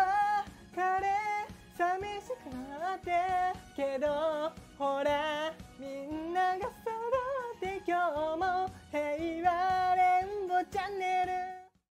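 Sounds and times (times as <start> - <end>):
faint backing track: 0.0 - 11.7
person singing a melody: 0.0 - 11.8.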